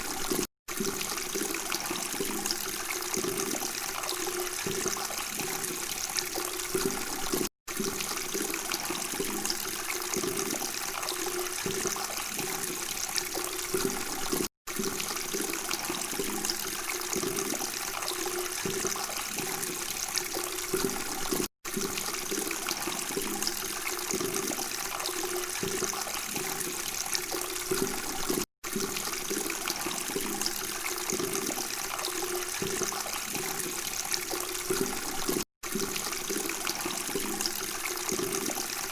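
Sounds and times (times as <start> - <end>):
water gurgling: 0.0 - 38.9.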